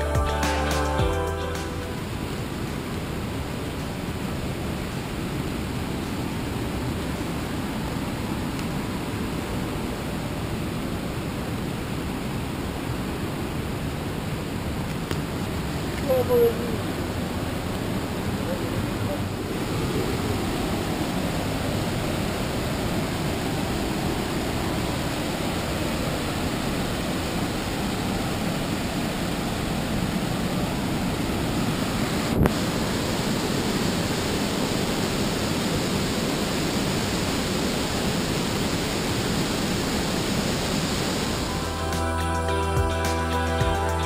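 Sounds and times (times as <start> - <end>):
waterfall and river rushing: 0.0 - 44.0.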